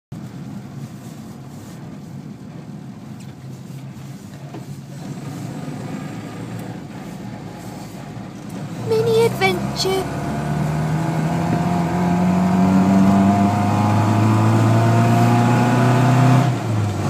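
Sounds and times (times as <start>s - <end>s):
road noise: 0.1s - 17.0s
car engine hum: 0.2s - 17.0s.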